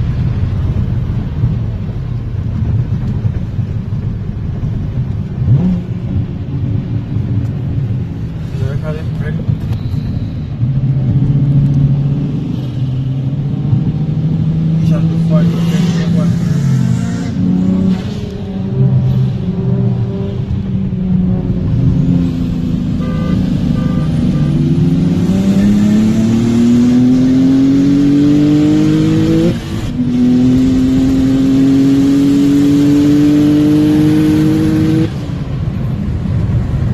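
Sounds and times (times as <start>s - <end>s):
car engine at full throttle: 0.0s - 36.9s.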